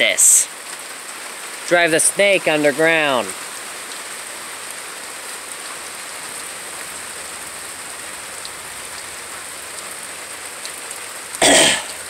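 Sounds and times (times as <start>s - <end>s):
raindrop ticks: 0.0s - 12.0s
steady rain hiss: 0.0s - 12.0s.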